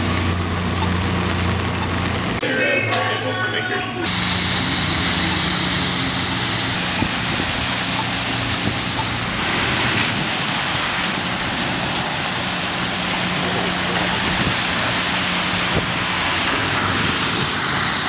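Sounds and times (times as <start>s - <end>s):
cars splashing through floodwater: 0.0s - 18.0s.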